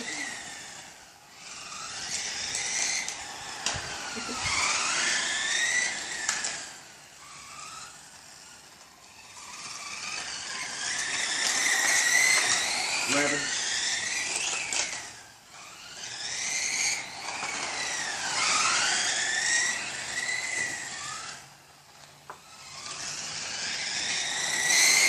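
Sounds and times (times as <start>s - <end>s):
rc car motors whining: 0.0s - 25.0s.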